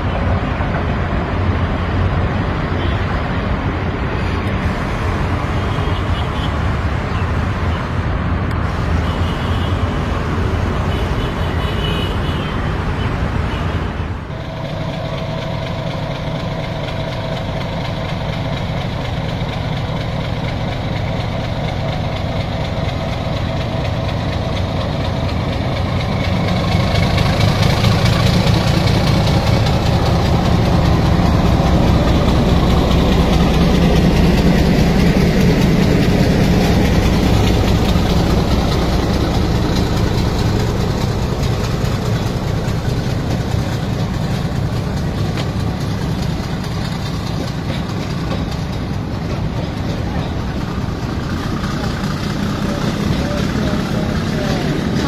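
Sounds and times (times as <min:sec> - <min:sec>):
diesel locomotive engine drone: 0:00.0 - 0:55.0
passenger train running: 0:00.0 - 0:55.0.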